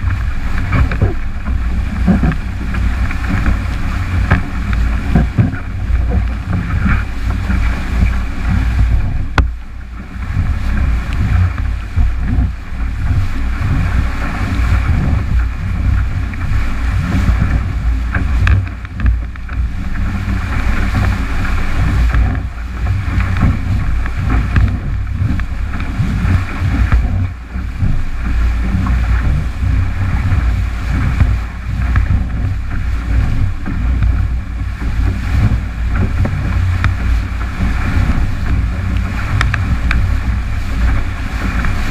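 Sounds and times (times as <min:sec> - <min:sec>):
water rushing along hull: 0:00.0 - 0:41.9
wind buffeting microphone: 0:00.0 - 0:41.9.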